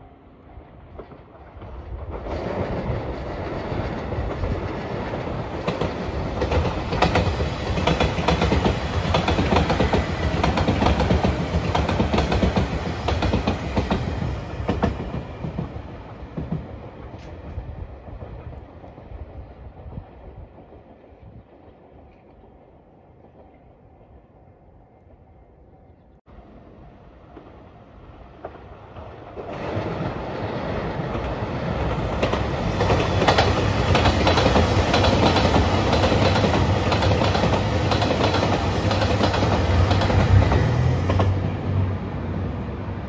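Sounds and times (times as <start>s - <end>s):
train rumble passing: 0.0s - 43.0s.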